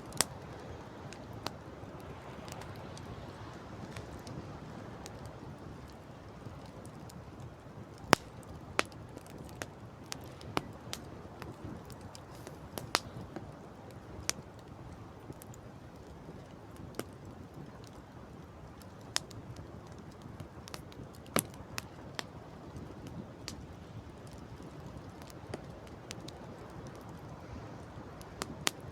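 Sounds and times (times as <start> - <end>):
campfire crackling and popping: 0.0 - 28.9.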